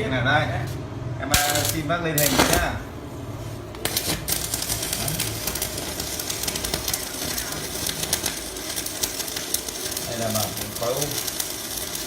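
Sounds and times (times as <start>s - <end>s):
welding arc crackling: 1.3s - 3.0s, 3.7s - 12.0s.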